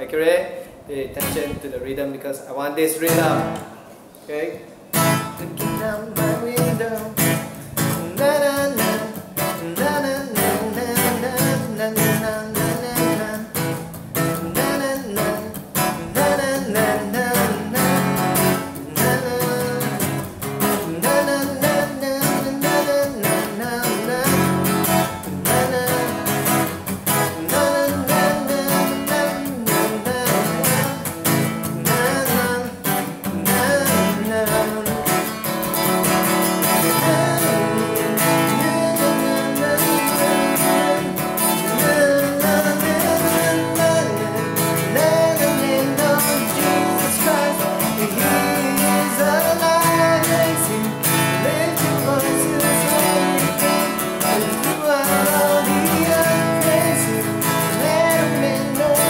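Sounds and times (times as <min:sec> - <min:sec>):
acoustic guitar strumming: 0:02.9 - 0:04.1, 0:04.8 - 0:59.0.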